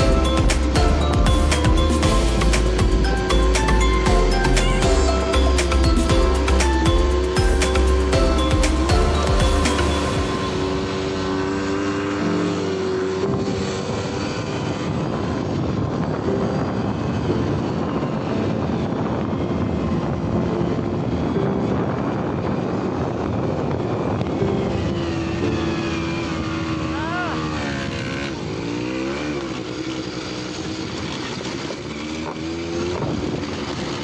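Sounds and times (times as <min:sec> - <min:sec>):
quad bike engine running: 0:00.0 - 0:34.0
wind rush on microphone: 0:00.0 - 0:34.0.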